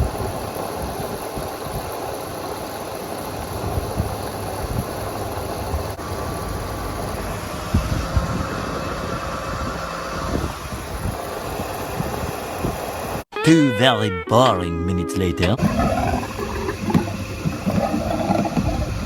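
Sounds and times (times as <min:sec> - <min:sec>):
fuel pump humming: 0:00.0 - 0:13.2, 0:15.2 - 0:19.0.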